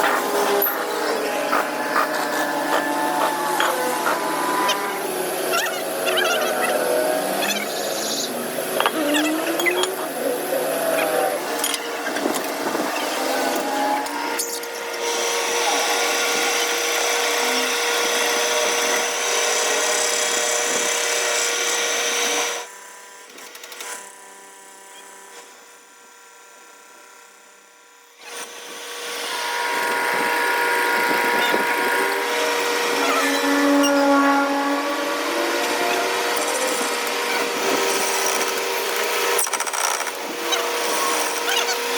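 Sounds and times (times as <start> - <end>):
power tool running: 0.0 - 41.9.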